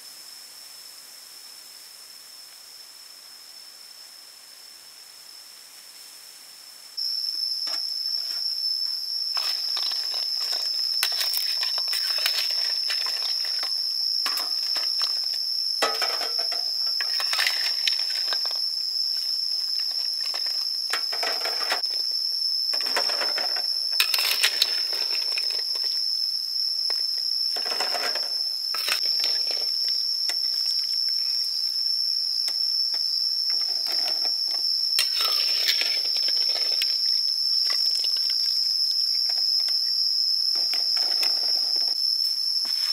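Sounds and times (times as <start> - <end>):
high-pitched insect drone: 6.9 - 42.9.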